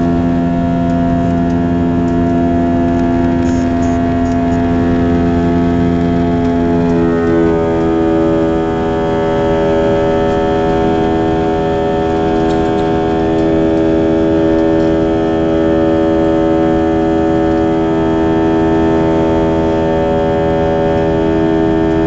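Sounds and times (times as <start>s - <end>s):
jet engines buzz-saw drone: 0.0s - 22.0s.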